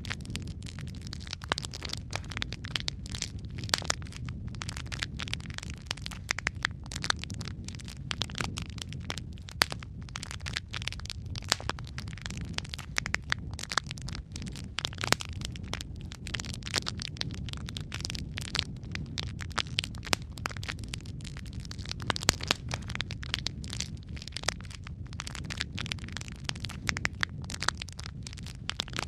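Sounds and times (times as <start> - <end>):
logs crackling in fireplace: 0.0 - 29.0.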